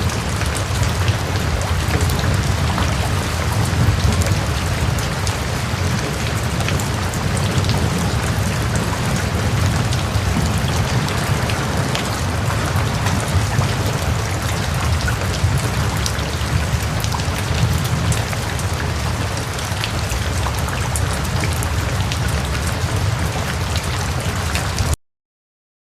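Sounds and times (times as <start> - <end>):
raindrop hits: 0.0 - 23.8
heavy rain falling: 0.0 - 25.0.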